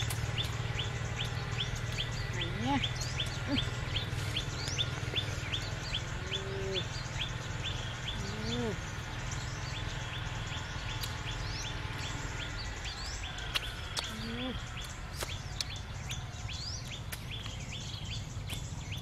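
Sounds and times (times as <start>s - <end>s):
bird chirping high: 0.0s - 19.0s
low background rumble: 0.0s - 19.0s.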